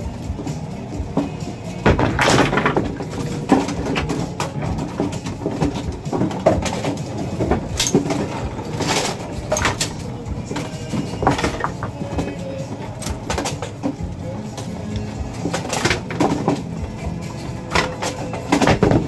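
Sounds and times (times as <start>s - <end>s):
bowling pins clattering: 0.0s - 19.0s
mechanical rumble: 0.0s - 19.0s.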